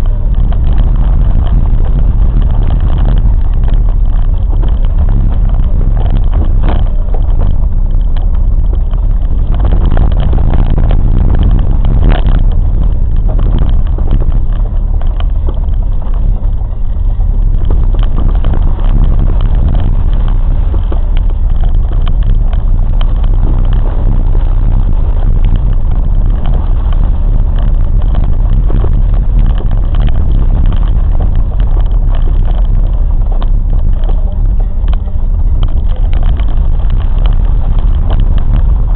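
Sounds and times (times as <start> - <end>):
train rattling and clicking: 0.0 - 38.9
train rumbling: 0.0 - 38.9.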